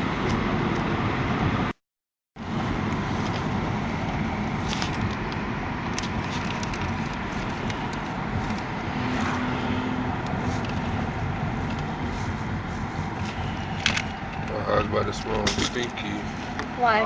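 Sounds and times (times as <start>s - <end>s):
low rumbling noise: 2.4s - 17.0s.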